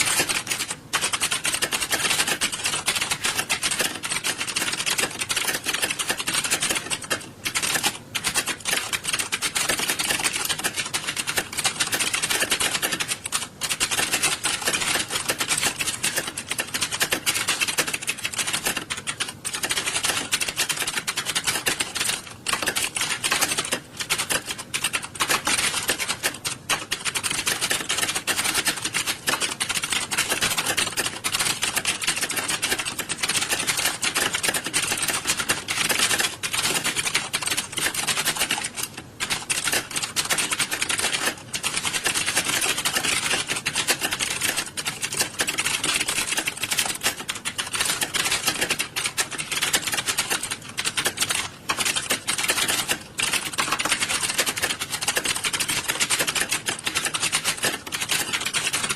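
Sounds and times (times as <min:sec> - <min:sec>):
many keyboards typing clatter: 0:00.0 - 0:58.9.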